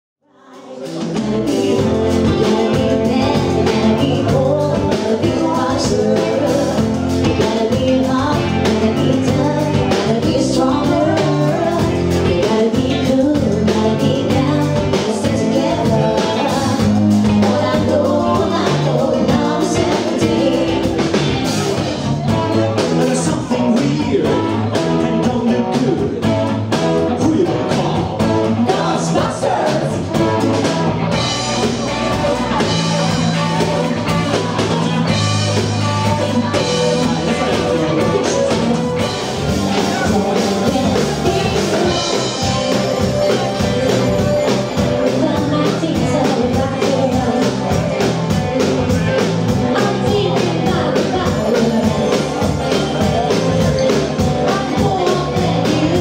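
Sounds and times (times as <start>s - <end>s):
woman singing lead vocals: 0.3s - 25.9s, 27.1s - 56.0s
electric guitars: 0.3s - 56.0s
drum kit steady beat: 0.5s - 56.0s.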